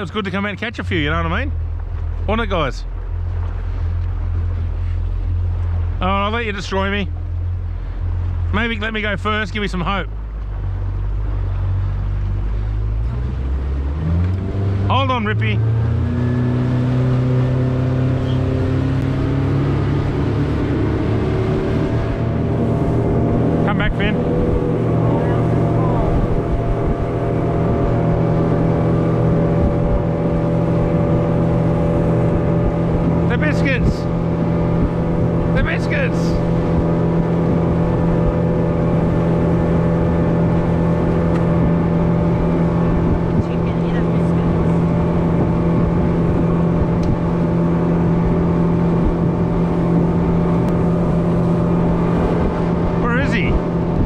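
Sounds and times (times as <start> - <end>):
outboard motor droning: 0.0 - 54.0
wind and water rushing: 0.0 - 54.0.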